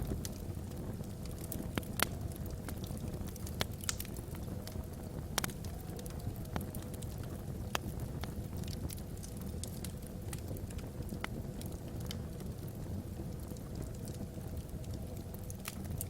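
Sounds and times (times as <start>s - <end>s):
logs crackling in a fireplace: 0.0s - 16.0s.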